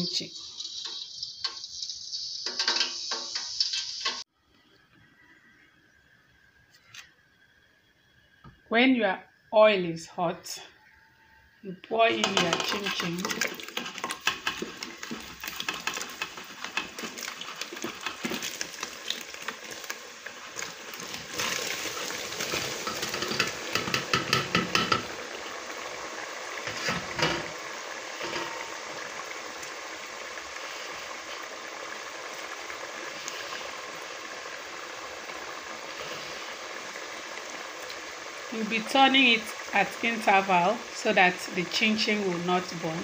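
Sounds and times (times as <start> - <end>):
oil sizzling and bubbling: 0.0 - 4.3, 10.9 - 43.0.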